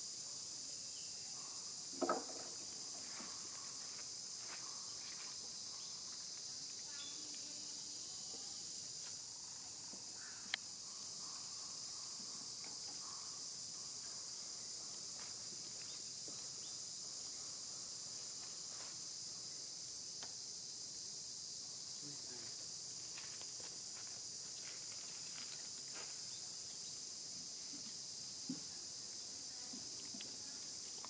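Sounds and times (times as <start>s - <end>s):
insect chorus drone: 0.0s - 31.0s.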